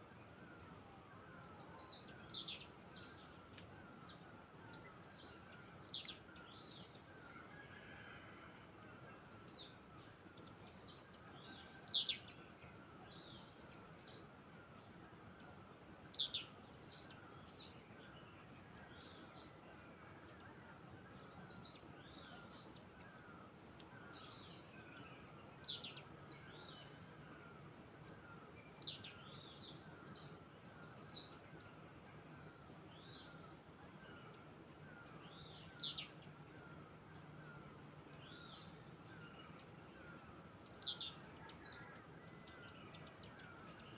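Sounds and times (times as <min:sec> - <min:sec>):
soft steady hiss: 0:00.0 - 0:43.9.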